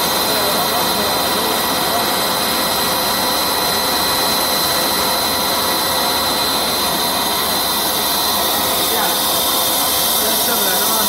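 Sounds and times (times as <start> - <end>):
machine noise with high whine: 0.0 - 11.0.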